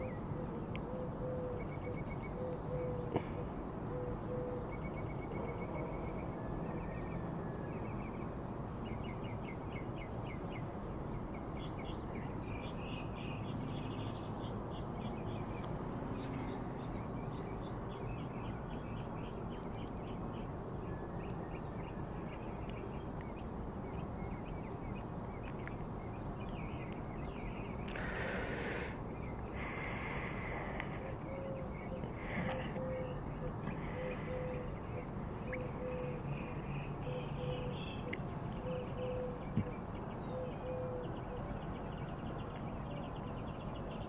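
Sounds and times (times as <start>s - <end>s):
low background noise: 0.0s - 44.0s
songbirds chirping: 0.0s - 44.0s.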